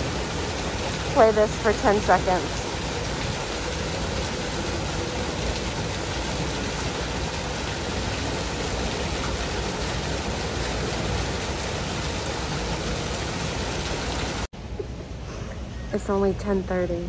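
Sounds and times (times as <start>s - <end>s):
waterfall splashing into pool: 0.0s - 14.5s.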